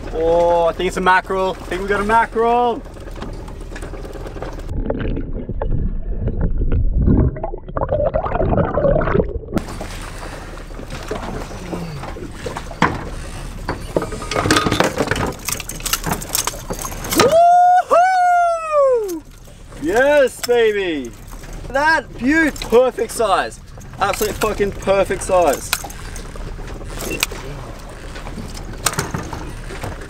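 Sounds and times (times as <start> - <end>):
knocks and splashes: 0.0 - 17.8, 19.0 - 30.0
water sloshing at hull: 0.0 - 30.0.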